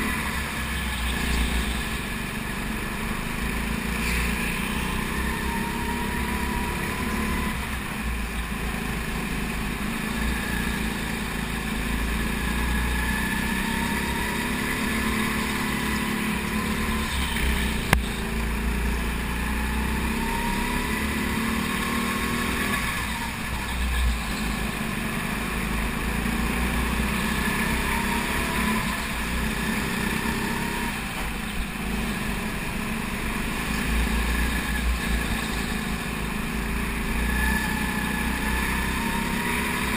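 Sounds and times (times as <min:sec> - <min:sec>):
go-kart engine at racing speed: 0:00.0 - 0:39.9.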